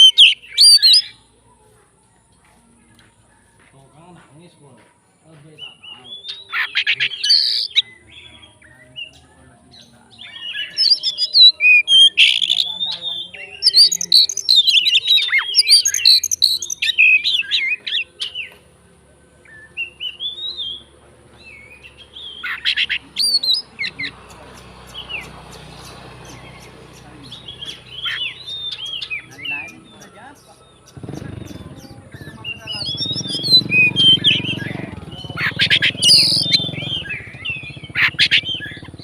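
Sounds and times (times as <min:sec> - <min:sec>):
bird singing whistles and chirps: 0:00.0 - 0:01.2, 0:05.6 - 0:18.6, 0:19.4 - 0:24.2, 0:24.8 - 0:39.0.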